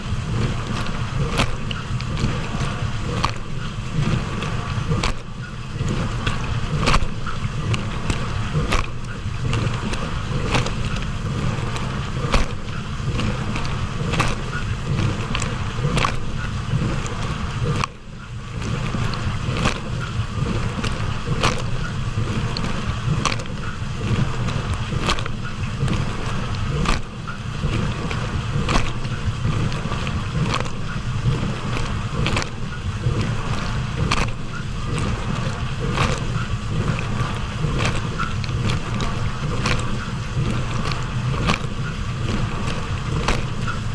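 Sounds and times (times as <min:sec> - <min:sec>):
dishwasher pump hum: 0:00.0 - 0:43.9
sharp splash or tick: 0:00.0 - 0:43.9
spraying water: 0:00.0 - 0:43.9.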